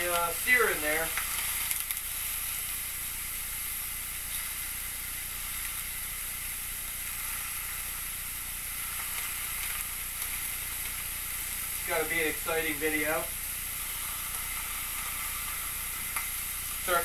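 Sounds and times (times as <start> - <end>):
steaks sizzling on a griddle: 0.0 - 17.0.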